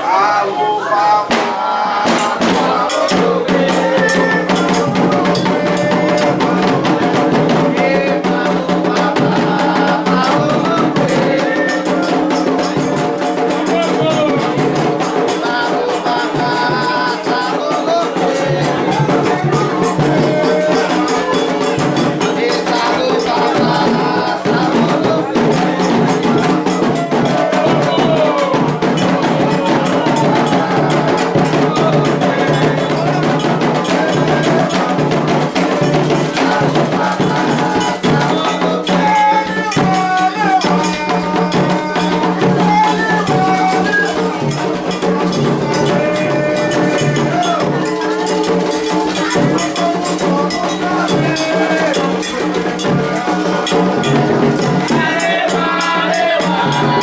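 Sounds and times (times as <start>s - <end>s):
voices singing: 0.0s - 57.0s
drums: 1.1s - 57.0s
struck bell or rattle: 2.2s - 57.0s.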